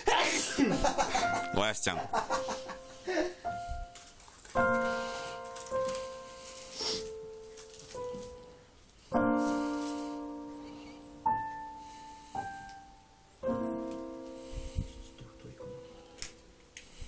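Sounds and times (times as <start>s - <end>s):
slow piano music: 0.5s - 17.0s.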